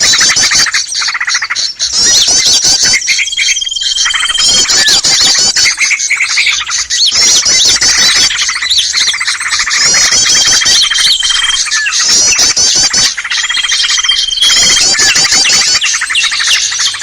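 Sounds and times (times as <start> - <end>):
chorus of small birds: 0.0 - 17.0.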